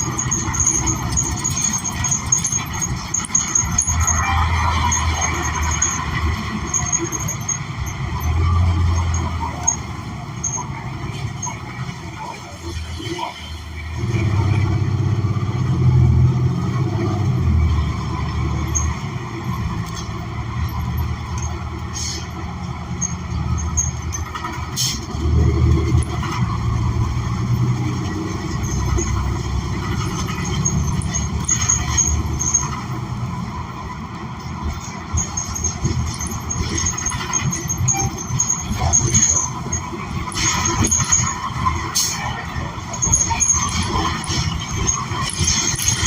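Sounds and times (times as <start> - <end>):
bus engine rumble: 0.0 - 46.0
road noise: 0.0 - 46.0.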